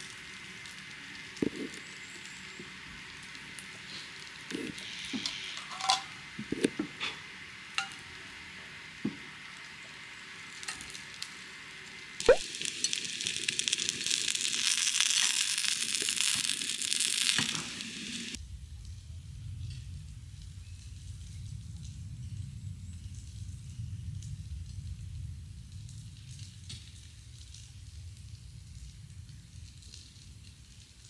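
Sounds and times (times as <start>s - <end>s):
oil sizzling and crackling: 0.0s - 18.4s, 20.3s - 31.0s.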